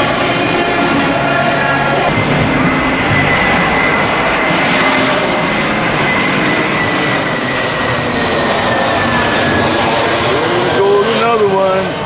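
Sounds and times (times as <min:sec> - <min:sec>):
high jet engine whine: 0:00.0 - 0:12.0
jet airliner roaring overhead: 0:00.0 - 0:12.0.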